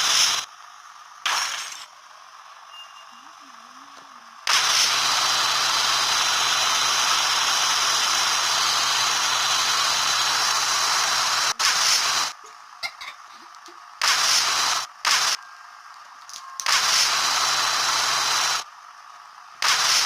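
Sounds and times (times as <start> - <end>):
electric appliance rushing and humming: 0.0 - 2.7, 3.4 - 12.5, 13.6 - 20.0.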